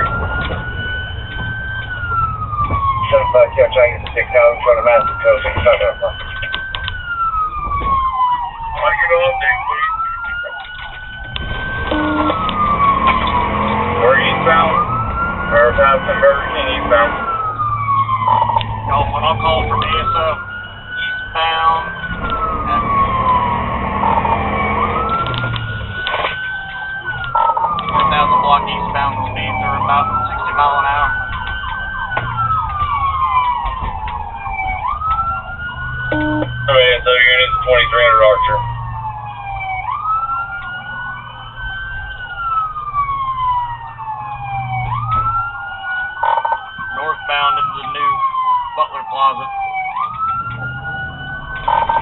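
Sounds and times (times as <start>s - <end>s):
low vehicle drone: 0.0s - 52.0s
police siren wailing: 0.0s - 52.0s
road and engine noise: 0.0s - 52.0s.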